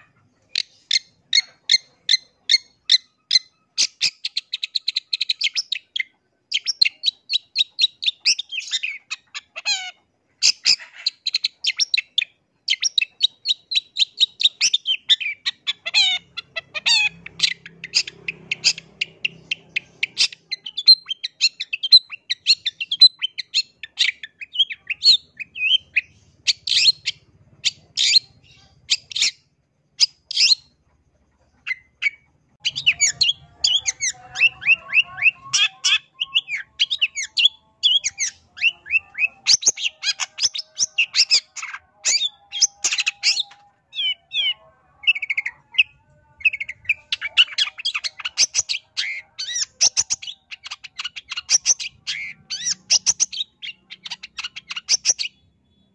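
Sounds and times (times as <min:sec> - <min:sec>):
bird singing chattering notes: 0:00.0 - 0:55.9.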